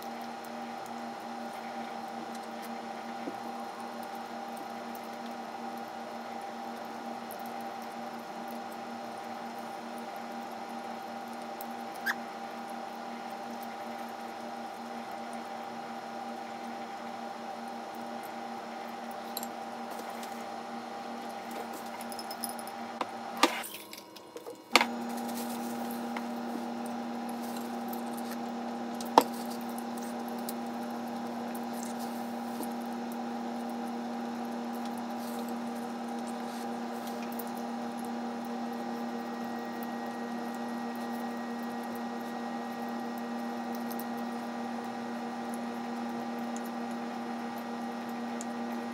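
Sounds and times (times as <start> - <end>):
steady background hum: 0.0 - 48.9.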